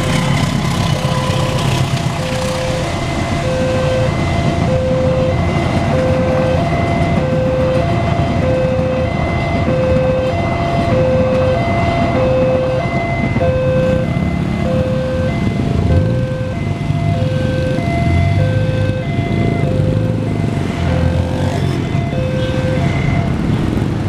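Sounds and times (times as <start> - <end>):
motorcycles idling: 0.0 - 20.6
train passing rumble: 0.0 - 24.0
level crossing electronic tone: 1.0 - 23.4.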